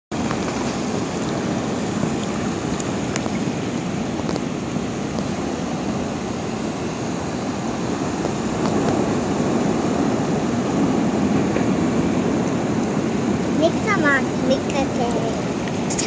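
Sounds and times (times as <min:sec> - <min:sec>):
surf washing over sand: 0:00.1 - 0:16.0.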